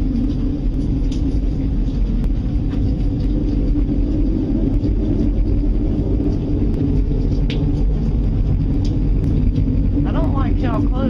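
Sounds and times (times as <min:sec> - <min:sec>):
loud low rumbling drone: 0:00.0 - 0:11.0.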